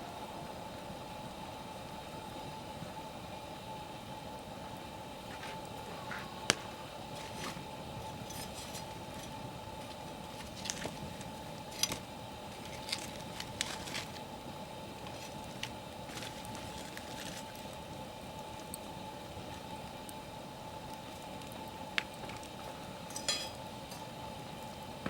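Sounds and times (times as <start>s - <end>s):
low fire hiss: 0.0s - 25.0s
campfire crackling and popping: 0.1s - 25.0s.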